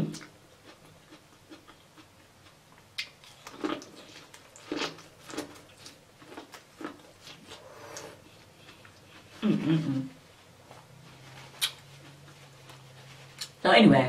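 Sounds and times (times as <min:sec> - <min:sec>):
person chewing corn on the cob: 0:00.1 - 0:09.6, 0:10.5 - 0:13.6.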